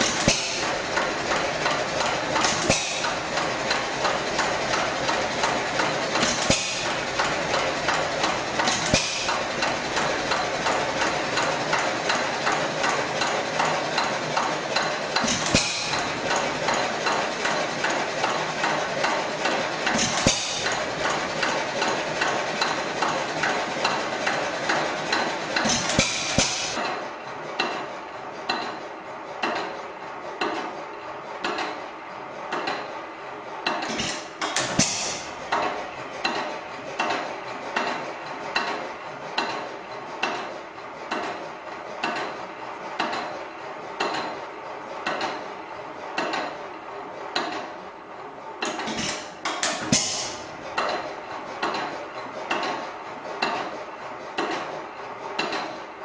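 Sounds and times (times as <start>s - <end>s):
stationary engine clattering: 0.0s - 56.0s.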